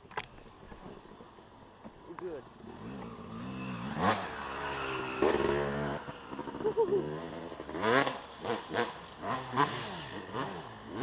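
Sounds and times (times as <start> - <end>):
dirt bike engines revving: 2.2 - 11.0.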